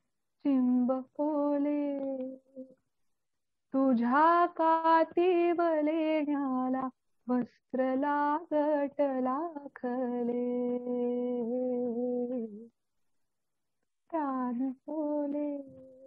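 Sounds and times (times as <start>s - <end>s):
woman singing unaccompanied: 0.4s - 2.8s, 3.7s - 12.7s, 14.1s - 16.0s.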